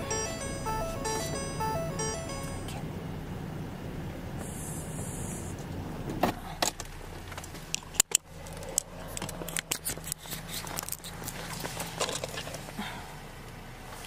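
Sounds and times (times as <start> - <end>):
idling car hum: 0.0 - 14.0.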